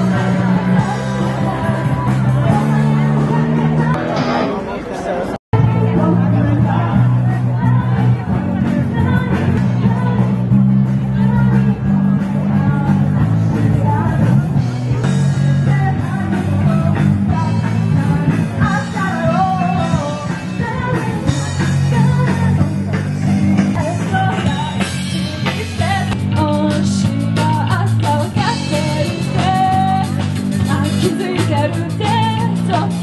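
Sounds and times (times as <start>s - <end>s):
woman singing: 0.0s - 4.0s, 7.3s - 14.5s, 15.3s - 33.0s
live rock band playing: 0.0s - 33.0s.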